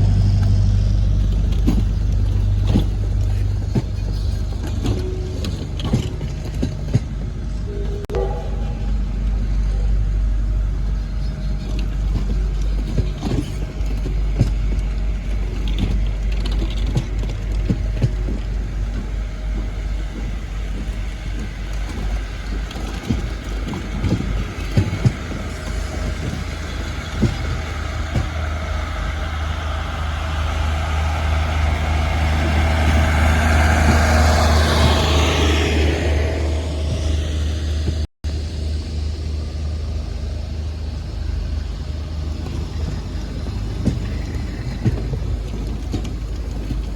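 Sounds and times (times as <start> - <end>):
steam train rumbling: 0.0 - 46.9
train knocks: 0.0 - 46.9.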